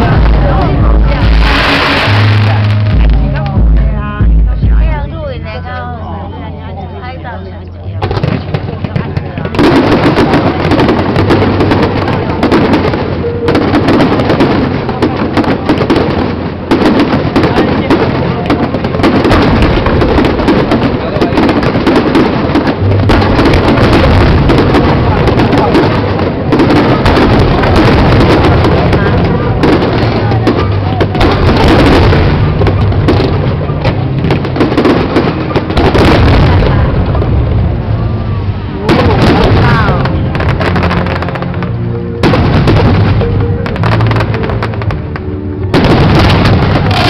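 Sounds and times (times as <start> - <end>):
fireworks crackling bangs: 0.0 - 5.6, 7.9 - 47.0
low rumble of booms: 0.0 - 5.6, 8.0 - 47.0.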